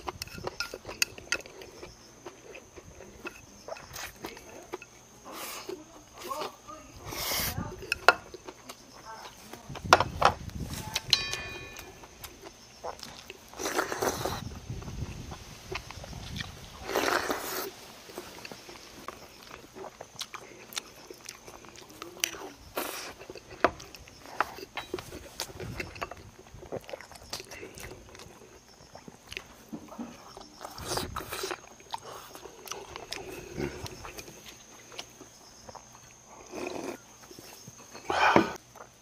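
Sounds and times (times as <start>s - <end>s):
man chewing and slurping food: 0.0s - 10.7s, 11.6s - 39.0s.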